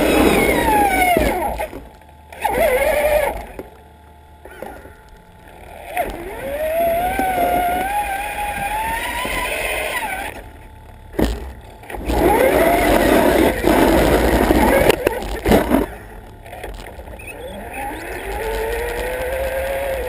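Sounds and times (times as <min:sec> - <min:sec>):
toy truck electric motor whining: 0:00.0 - 0:03.7, 0:04.4 - 0:10.6, 0:11.2 - 0:20.0.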